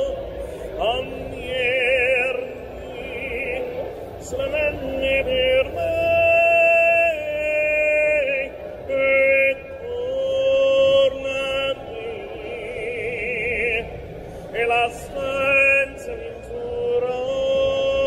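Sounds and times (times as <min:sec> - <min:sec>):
man singing operatically: 0:00.0 - 0:18.0.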